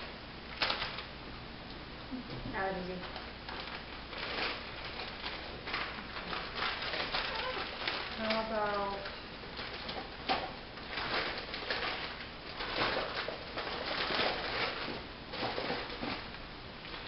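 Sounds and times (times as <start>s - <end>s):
plastic packets crinkling: 0.5s - 1.1s, 2.9s - 17.0s.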